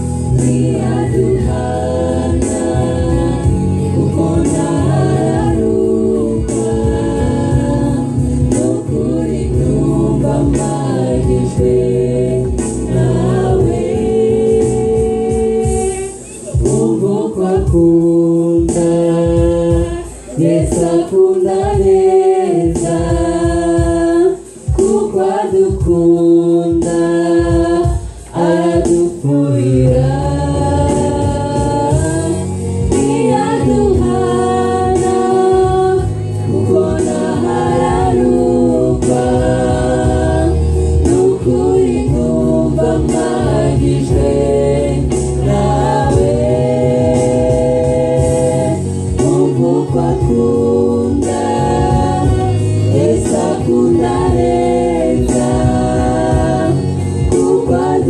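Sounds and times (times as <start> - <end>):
gospel choir singing: 0.0 - 58.0.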